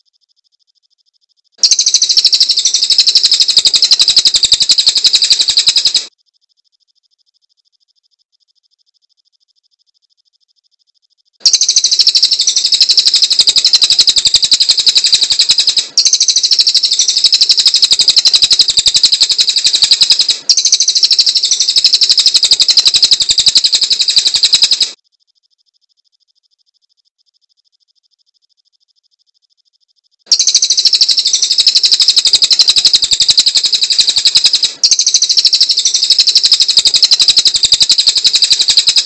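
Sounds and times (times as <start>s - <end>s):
songbird high-pitched trill: 1.6s - 6.1s, 6.8s - 39.0s.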